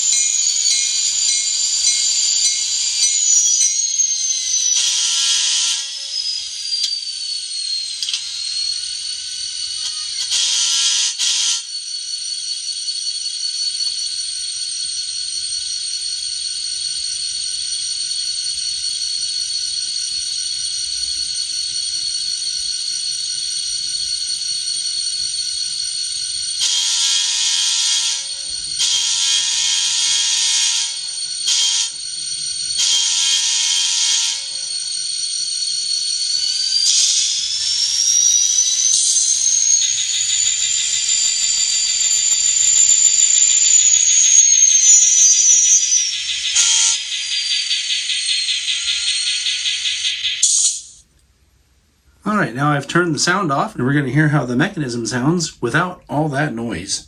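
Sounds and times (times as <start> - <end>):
model locomotive engine whine: 0.0 - 57.0.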